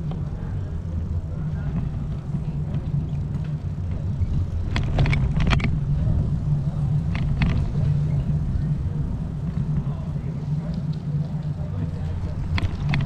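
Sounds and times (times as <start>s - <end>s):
bicycle clicks and rattles: 0.0s - 13.0s
tyre noise on road: 0.0s - 13.0s.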